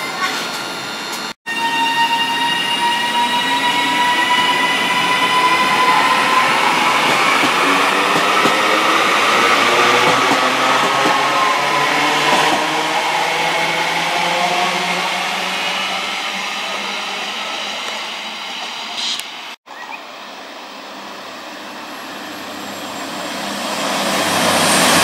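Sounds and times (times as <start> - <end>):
wheels rushing on rail: 0.0 - 18.9, 20.8 - 25.0.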